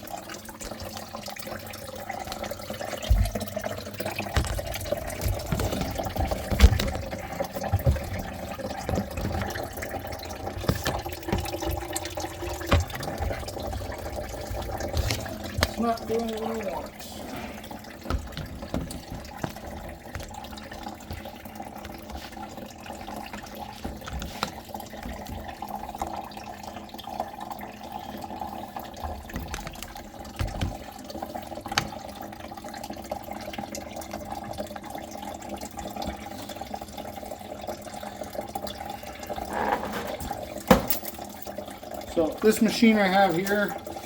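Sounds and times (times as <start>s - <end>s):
water trickling in sink drain: 0.0s - 44.0s.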